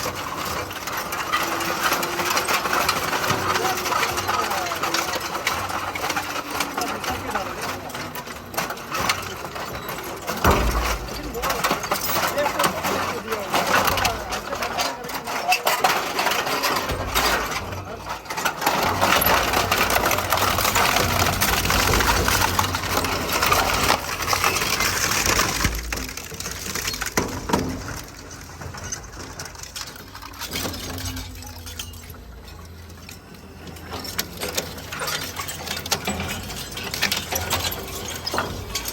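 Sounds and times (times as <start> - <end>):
shredder crushing metal scrap: 0.0 - 38.9.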